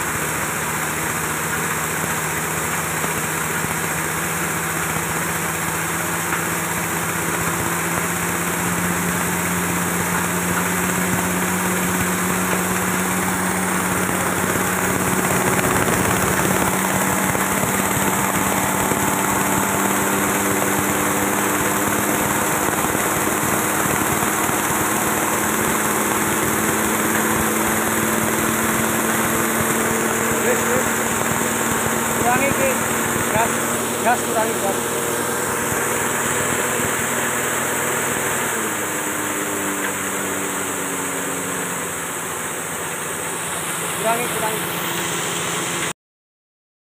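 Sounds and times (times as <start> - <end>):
mill grinding material: 0.0 - 45.9
small petrol engine drone: 0.0 - 46.0.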